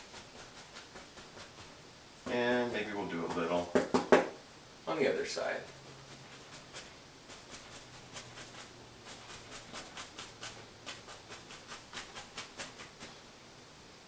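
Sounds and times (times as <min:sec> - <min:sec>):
paint brush tapping canvas: 0:00.0 - 0:04.3, 0:05.6 - 0:13.2.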